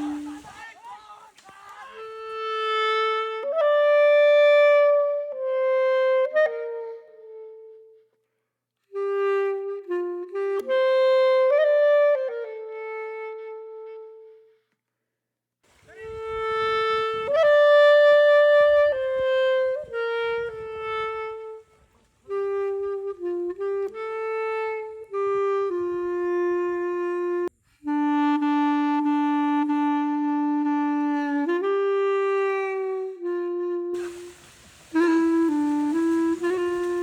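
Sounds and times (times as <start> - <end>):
slow solo woodwind melody: 0.0 - 0.7, 1.4 - 8.2, 8.8 - 14.7, 15.9 - 37.0.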